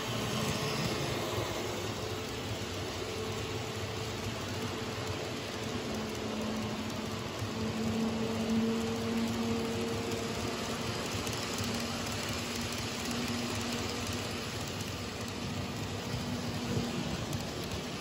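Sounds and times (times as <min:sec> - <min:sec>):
model train wheels rattling: 0:00.0 - 0:18.0.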